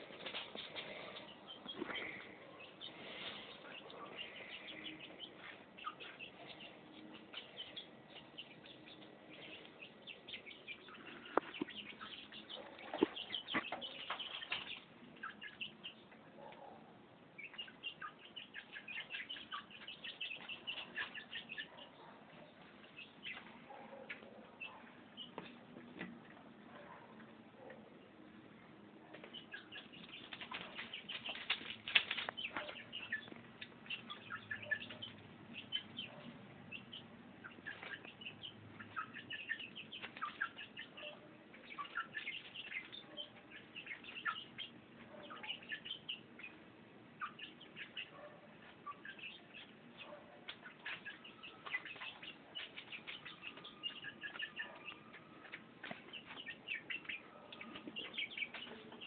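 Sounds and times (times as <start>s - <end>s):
chicks peeping and chirping: 0.0s - 59.0s.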